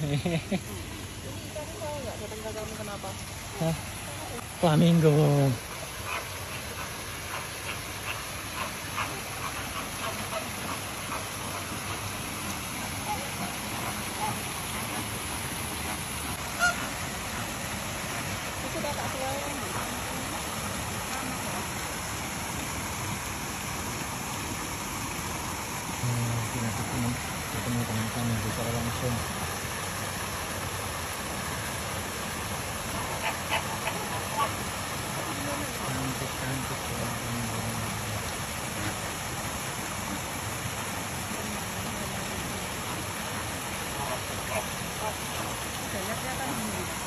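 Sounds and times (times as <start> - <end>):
waterfall rushing into pond: 0.0 - 47.0.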